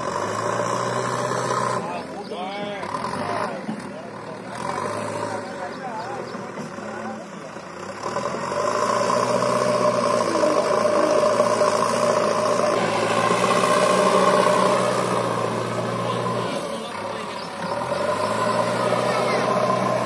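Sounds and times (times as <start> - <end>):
diesel engines running: 0.0 - 20.0.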